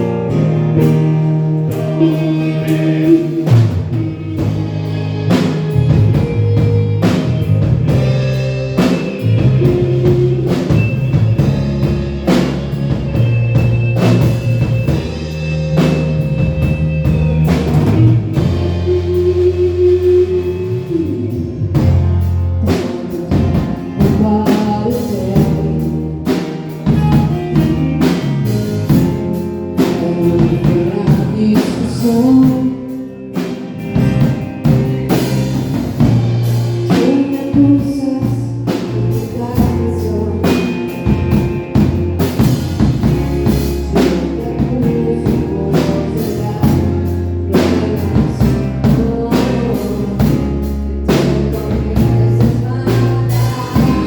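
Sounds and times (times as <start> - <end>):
person singing: 0.0 - 13.4, 14.0 - 54.0
bass: 0.0 - 54.0
drum-kit beat: 0.0 - 54.0.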